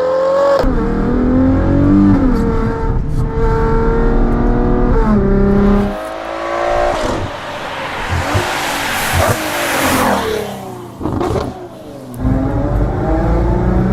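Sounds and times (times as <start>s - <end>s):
engine accelerating hard: 0.6s - 13.9s.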